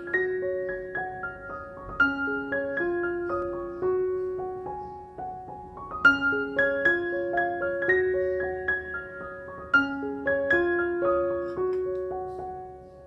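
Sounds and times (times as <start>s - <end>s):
piano-like instrumental music: 0.0s - 13.0s.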